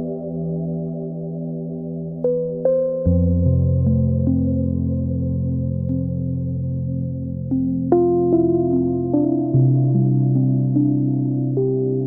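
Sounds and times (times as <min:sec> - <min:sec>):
soft sustained synthesizer chord: 0:00.0 - 0:12.0.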